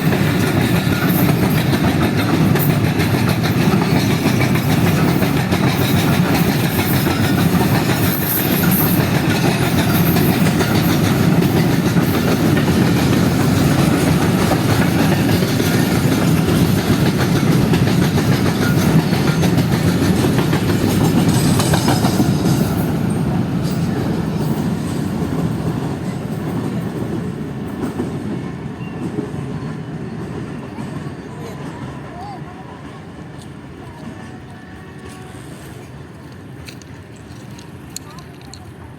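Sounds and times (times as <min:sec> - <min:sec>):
freight train wheels clattering over rail joints: 0:00.0 - 0:32.0, 0:32.9 - 0:38.9.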